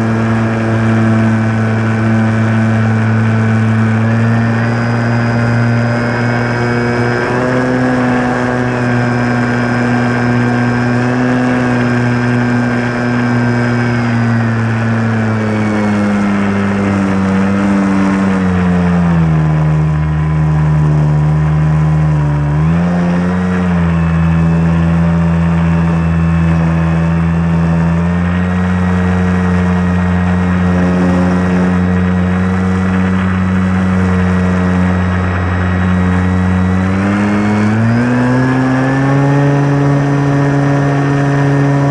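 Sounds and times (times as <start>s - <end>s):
model plane motor and propeller: 0.0s - 41.9s.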